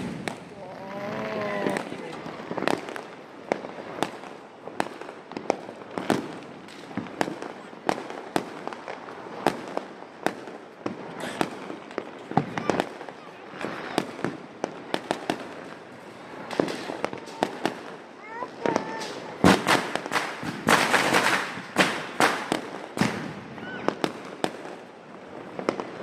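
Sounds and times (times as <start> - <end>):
firecrackers banging: 0.0 - 26.0.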